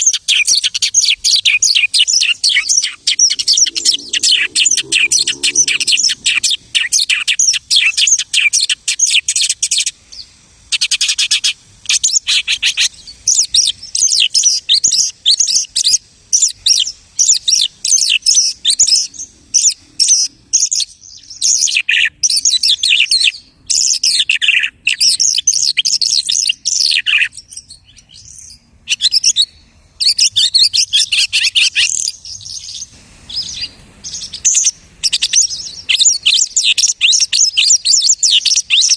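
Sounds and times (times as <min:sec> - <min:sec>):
lark singing: 0:00.0 - 0:09.8, 0:10.8 - 0:38.9.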